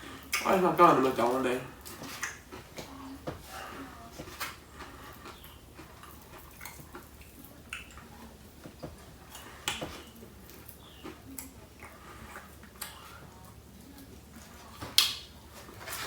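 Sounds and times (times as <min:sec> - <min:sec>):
wet chewing and mouth smacks: 0:00.1 - 0:00.6, 0:01.8 - 0:15.5.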